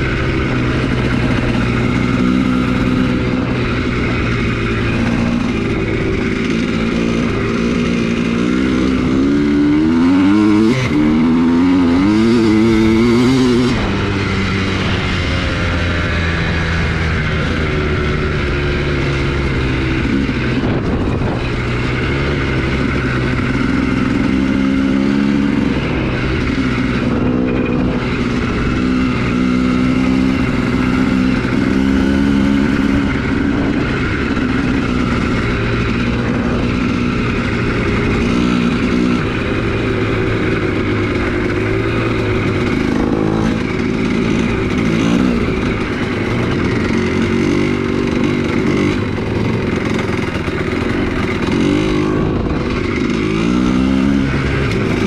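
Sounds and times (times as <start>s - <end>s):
rushing wind noise: 0.0s - 55.0s
two-stroke dirt bike engine: 0.0s - 55.0s.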